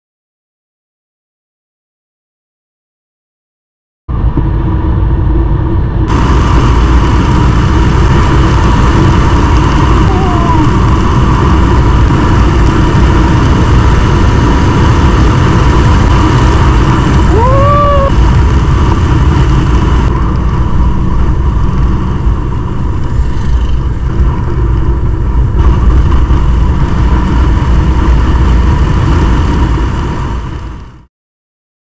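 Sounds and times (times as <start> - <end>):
motorcycle engine running: 4.1 - 31.1
wind rushing on microphone: 4.1 - 31.1.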